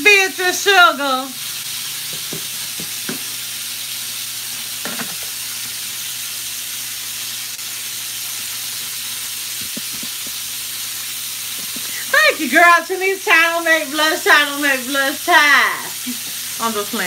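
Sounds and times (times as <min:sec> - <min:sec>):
sausages sizzling in a pan: 0:00.0 - 0:17.0.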